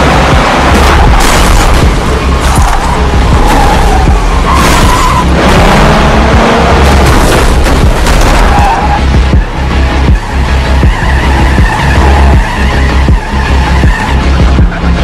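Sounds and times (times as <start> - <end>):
action film score: 0.0 - 15.0
truck engine and road noise: 0.0 - 15.0.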